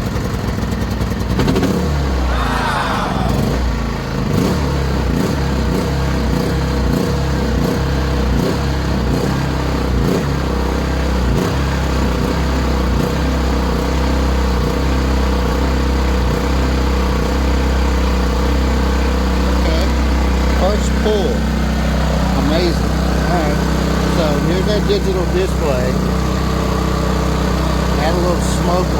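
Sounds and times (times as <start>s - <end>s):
generator engine running: 0.0s - 28.9s.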